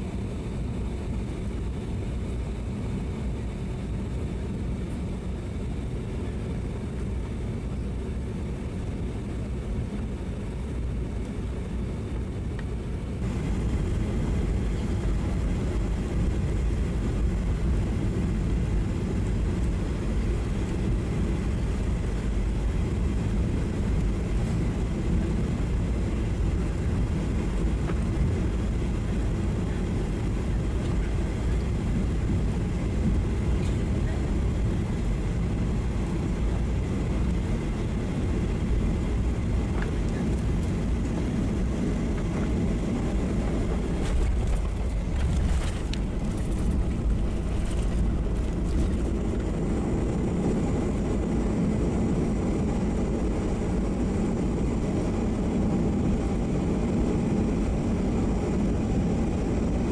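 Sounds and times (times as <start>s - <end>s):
airflow rushing in aircraft cabin: 0.0s - 59.9s
jet engine drone: 0.0s - 59.9s.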